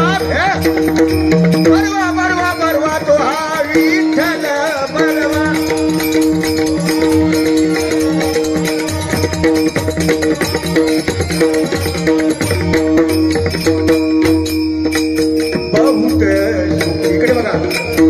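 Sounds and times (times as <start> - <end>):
man singing ornamented line: 0.0 - 13.9, 15.4 - 18.0
jingling rattle percussion: 0.0 - 18.0
steady held instrumental tones: 0.0 - 18.0.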